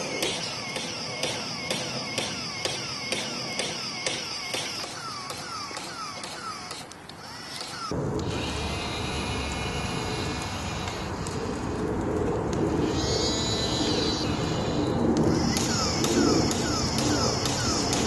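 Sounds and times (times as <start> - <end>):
mechanical running sound: 0.0 - 11.6, 12.8 - 18.0
hissing: 0.0 - 18.0.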